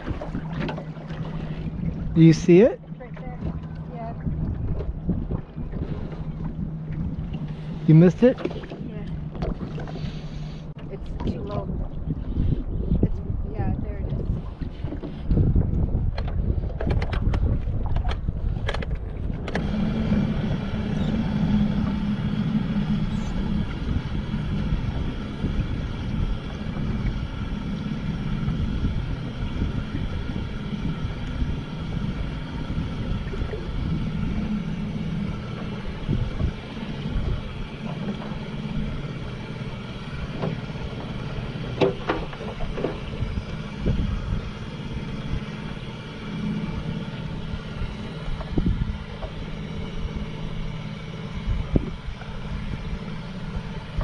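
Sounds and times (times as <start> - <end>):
engine running steadily: 0.0 - 54.0
wind noise on microphone: 3.2 - 7.8, 10.6 - 39.2, 42.0 - 46.0, 46.6 - 54.0.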